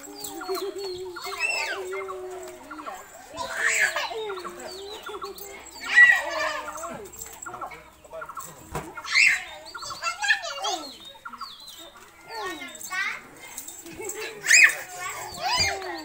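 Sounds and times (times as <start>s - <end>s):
children squealing and babbling: 0.0s - 7.6s, 8.8s - 16.0s.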